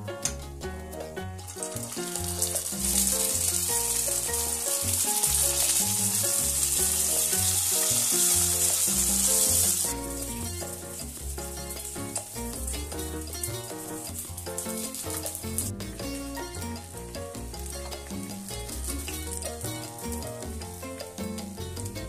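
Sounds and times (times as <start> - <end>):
background music: 0.0 - 22.0
spring rolls sizzling in oil: 1.0 - 22.0.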